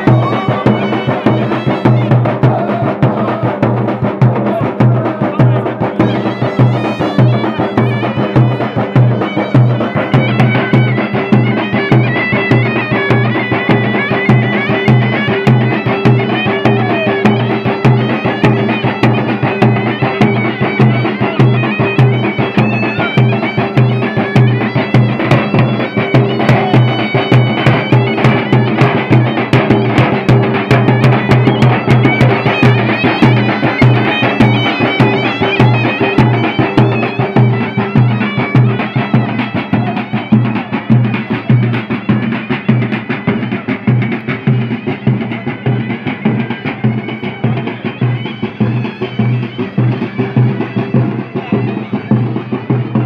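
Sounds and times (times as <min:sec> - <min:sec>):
drums beating fast rhythm: 0:00.0 - 0:53.0
reed pipe melody: 0:00.0 - 0:53.0.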